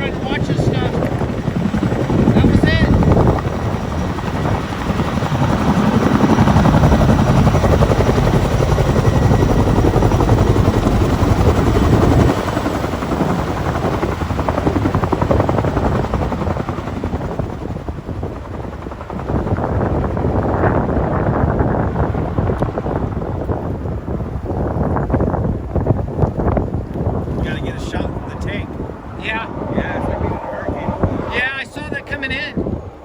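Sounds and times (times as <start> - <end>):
helicopter rotors and engines: 0.0 - 33.0.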